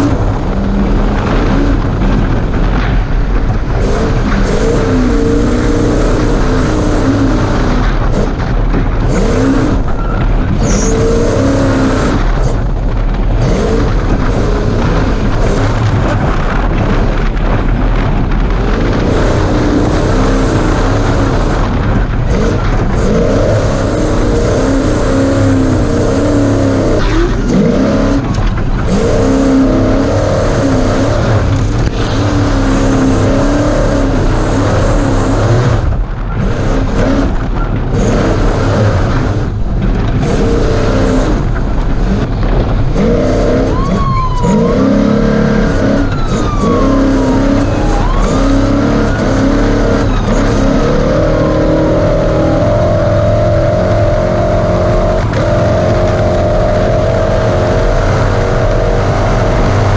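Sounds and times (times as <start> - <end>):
heavy rush of noise: 0.0 - 59.9
truck engine revving hard: 0.0 - 59.9.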